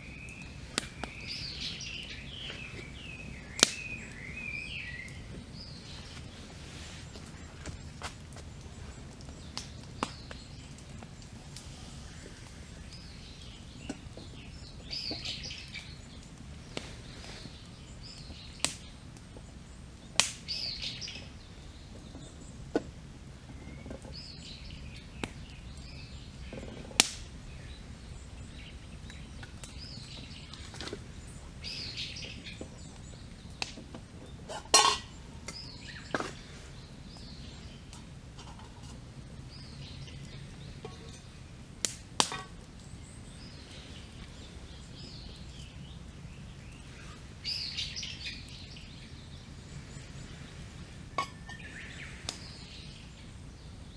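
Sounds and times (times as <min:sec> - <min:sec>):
bird singing: 0:00.0 - 0:06.2, 0:12.6 - 0:16.3, 0:17.4 - 0:22.7, 0:23.5 - 0:41.6, 0:42.7 - 0:53.9
campfire crackling: 0:00.0 - 0:53.9
fire popping: 0:00.0 - 0:53.9.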